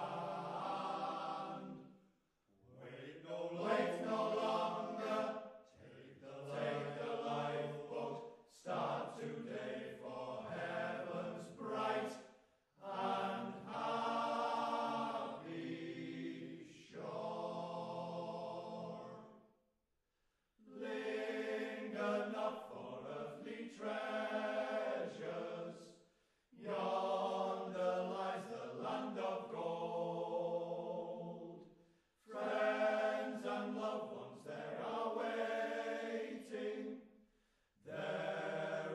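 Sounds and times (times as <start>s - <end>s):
male choir singing: 0.0s - 1.9s, 2.7s - 19.3s, 20.7s - 26.0s, 26.6s - 31.6s, 32.3s - 37.0s, 37.8s - 38.9s.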